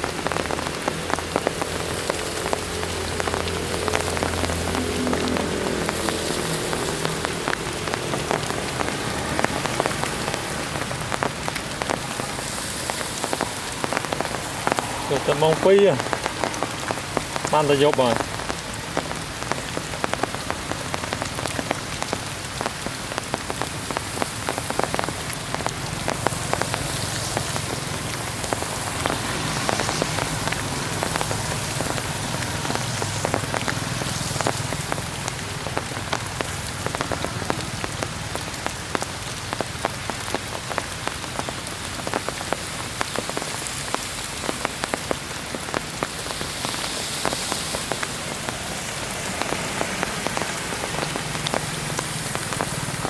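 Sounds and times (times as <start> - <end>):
heavy rain hiss: 0.0 - 53.0
raindrops pattering on surfaces: 0.0 - 53.0.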